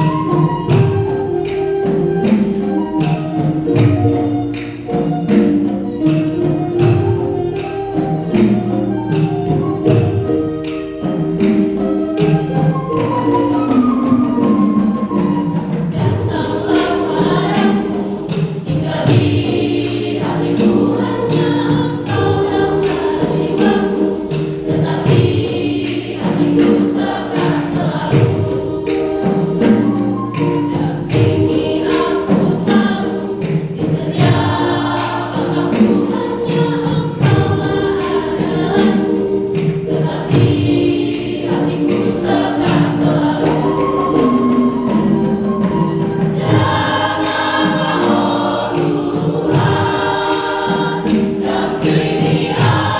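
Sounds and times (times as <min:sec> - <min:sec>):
choir singing in parts: 0:00.0 - 0:52.9.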